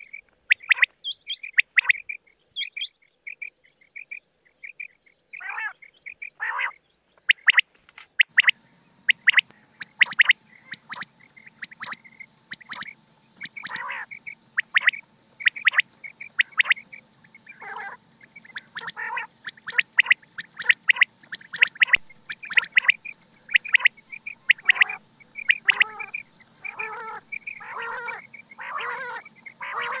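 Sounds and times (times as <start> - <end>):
quail croaking calls: 0.0 - 30.0
quail sharp high calls: 0.0 - 30.0.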